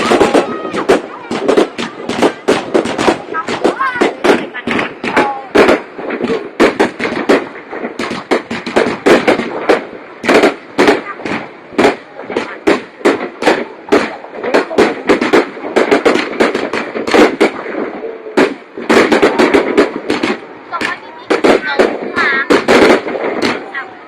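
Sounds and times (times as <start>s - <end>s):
murmur of crowd voices: 0.0s - 8.7s, 9.5s - 24.0s
fireworks bursting with sharp bangs: 0.0s - 24.0s.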